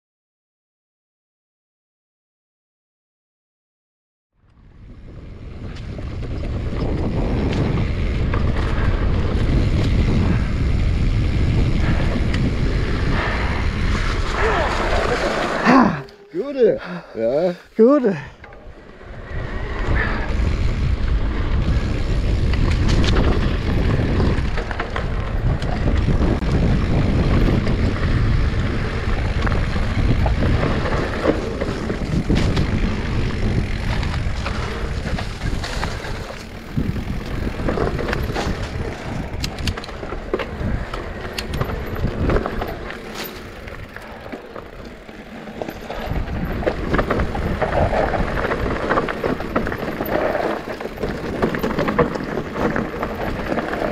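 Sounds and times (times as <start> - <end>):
wind buffeting microphone: 4.6 - 15.6, 18.4 - 53.9
bike rattling and knocking: 5.1 - 16.0, 20.0 - 53.9
tyre rumble: 5.6 - 16.1, 19.3 - 53.9.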